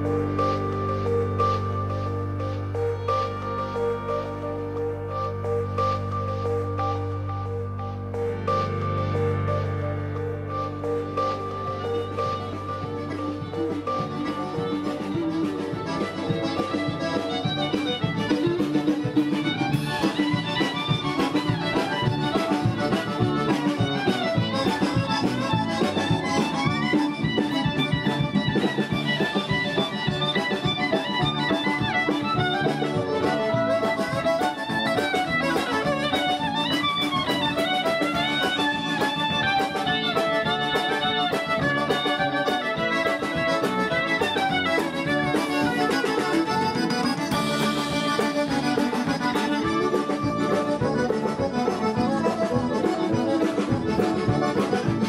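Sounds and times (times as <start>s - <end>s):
band music with fiddle: 0.0s - 55.0s.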